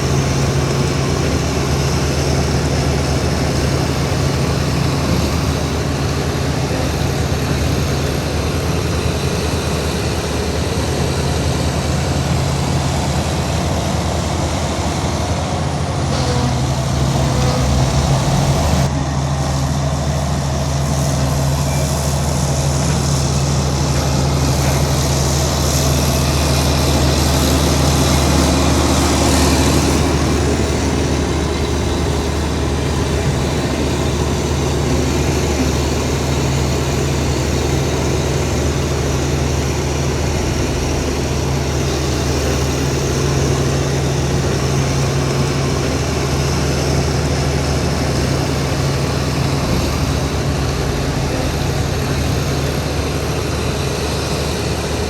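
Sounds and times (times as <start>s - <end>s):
heavy diesel machinery engine running: 0.0s - 55.0s.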